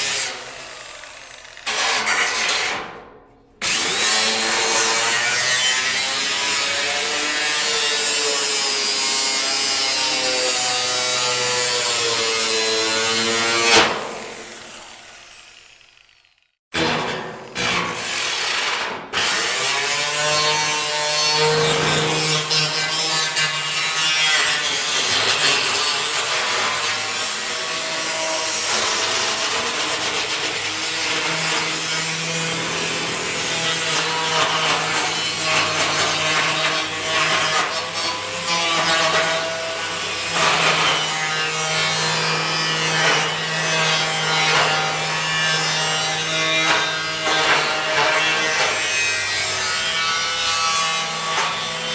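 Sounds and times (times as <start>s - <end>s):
angle grinder cutting metal: 0.0s - 3.0s, 3.6s - 51.9s.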